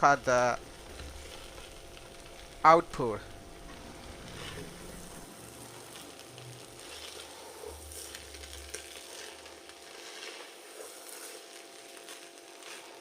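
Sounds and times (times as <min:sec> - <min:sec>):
faint sizzling hiss: 0:00.0 - 0:13.0.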